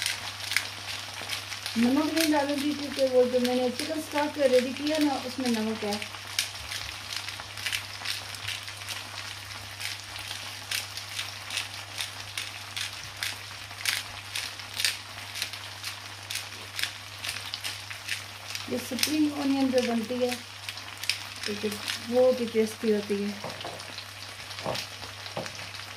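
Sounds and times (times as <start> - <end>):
fish sizzling in oil: 0.0 - 25.9
oil crackling and popping: 0.0 - 25.9.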